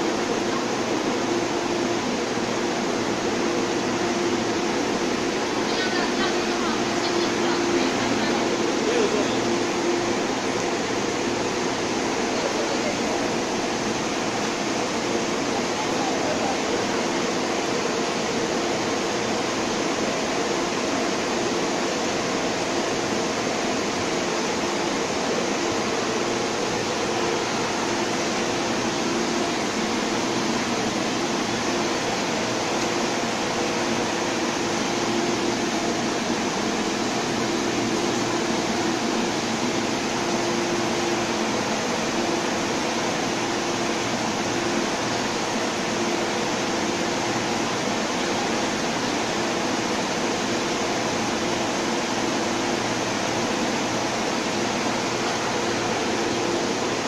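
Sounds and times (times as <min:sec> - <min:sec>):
ventilation hum with hiss: 0:00.0 - 0:57.0.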